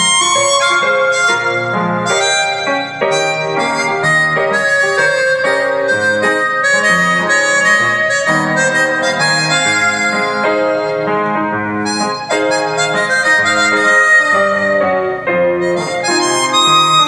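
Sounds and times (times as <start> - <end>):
harmonica melody: 0.0 - 17.0.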